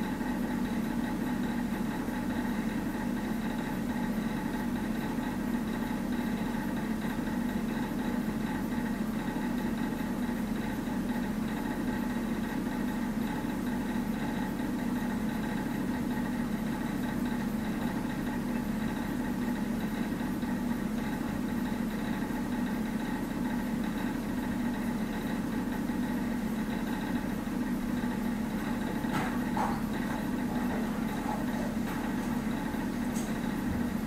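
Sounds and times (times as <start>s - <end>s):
motor hum: 0.0s - 34.0s.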